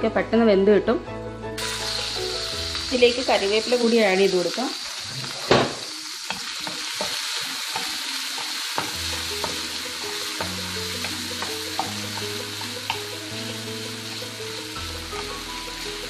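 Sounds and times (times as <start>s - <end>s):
soft background music: 0.0s - 4.8s, 6.1s - 16.0s
vegetables sizzling in hot oil: 1.6s - 16.0s.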